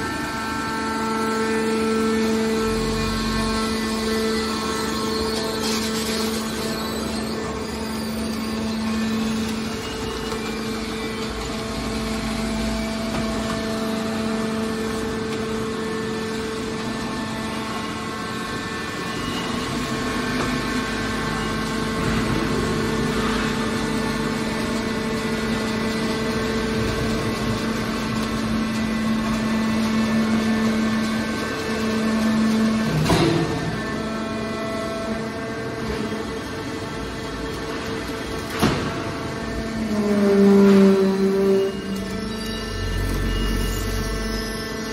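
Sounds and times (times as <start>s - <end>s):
hydraulic power unit humming: 0.0s - 44.9s
machine whir: 0.0s - 44.9s.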